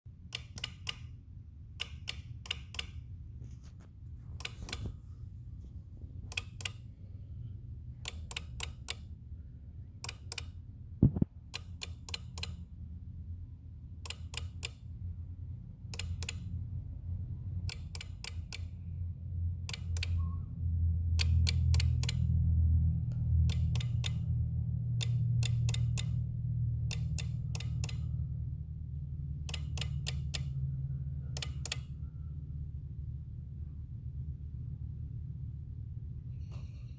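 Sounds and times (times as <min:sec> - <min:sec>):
low hum: 0:00.1 - 0:36.9.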